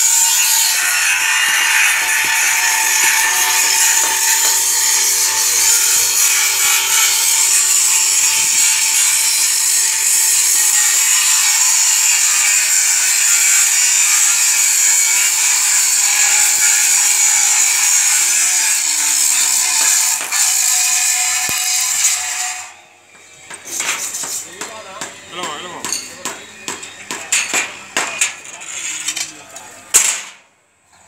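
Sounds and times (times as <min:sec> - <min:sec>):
power tool working steel: 0:00.0 - 0:29.8.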